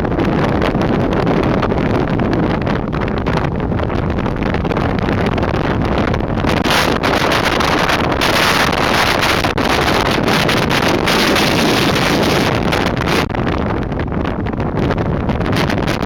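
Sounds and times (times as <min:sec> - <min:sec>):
heavy surf rushing: 0:00.0 - 0:16.0
storm wind buffeting microphone: 0:00.0 - 0:16.0.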